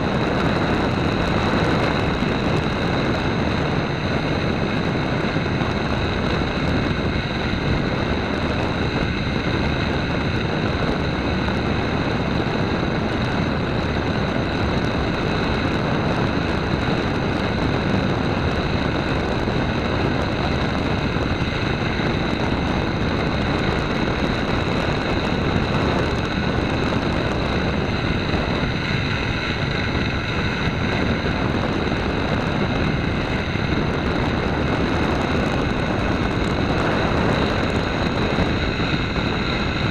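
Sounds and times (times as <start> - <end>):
model airplane motor whining: 0.0 - 39.9
propeller and airflow rushing: 0.0 - 39.9.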